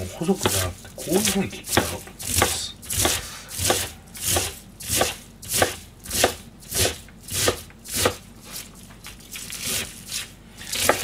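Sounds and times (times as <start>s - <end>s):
knife cutting cabbage on board: 0.4s - 11.0s.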